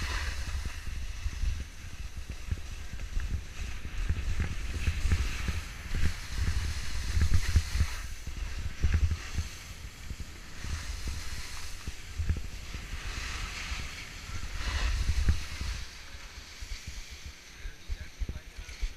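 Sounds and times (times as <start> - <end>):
skis scraping over snow: 0.0 - 18.9
wind buffeting microphone: 0.0 - 18.9.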